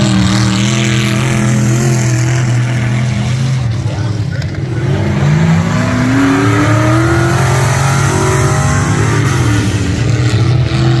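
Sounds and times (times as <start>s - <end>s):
low engine drone: 0.0s - 11.0s
race car engine accelerating: 0.0s - 11.0s.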